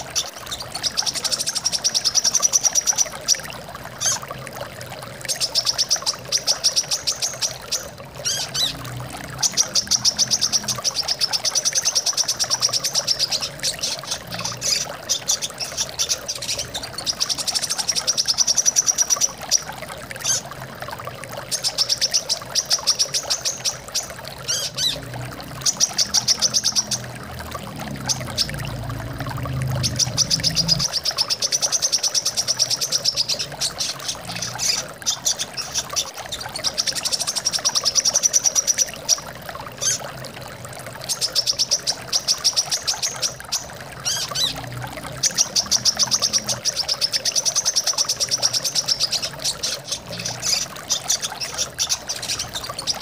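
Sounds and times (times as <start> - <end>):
running water: 0.0 - 53.0.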